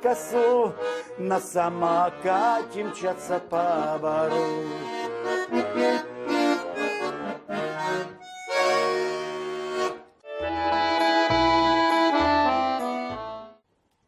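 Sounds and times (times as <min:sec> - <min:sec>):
accordion playing: 0:00.0 - 0:13.6.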